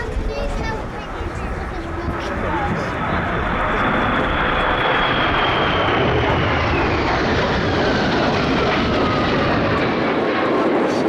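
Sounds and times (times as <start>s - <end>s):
jet engines flying past: 0.0s - 11.0s.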